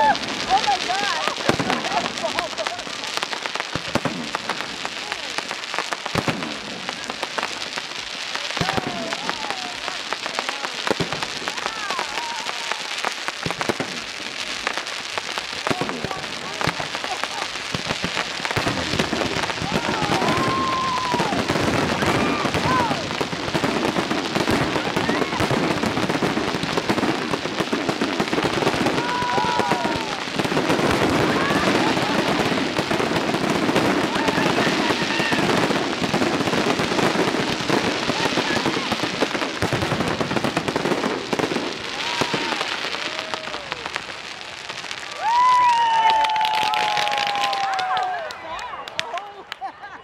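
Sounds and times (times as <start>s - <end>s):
firework bangs: 0.0s - 48.3s
fireworks crackling: 0.0s - 50.0s.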